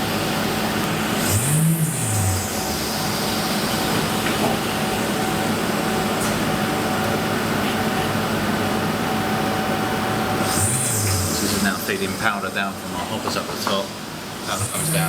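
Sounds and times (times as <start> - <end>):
printer mechanical whir and hum: 0.0 - 15.0.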